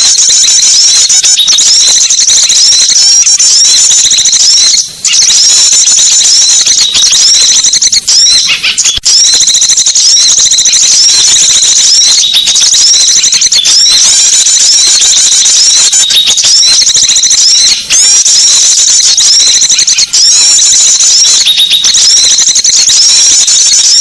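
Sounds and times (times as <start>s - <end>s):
songbirds chirping and twittering: 0.3s - 9.2s, 10.6s - 23.9s.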